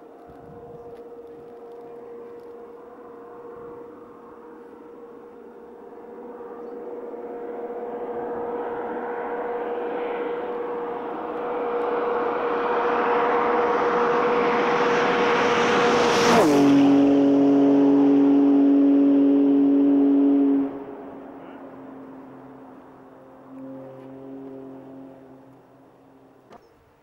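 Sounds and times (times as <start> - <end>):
sports car passing at full throttle: 0.0 - 26.5.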